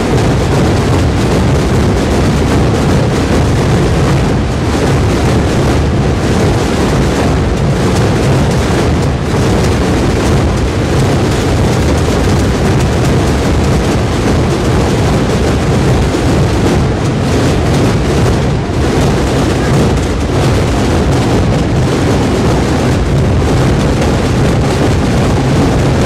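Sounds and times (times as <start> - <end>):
massed drumming: 0.0 - 26.0.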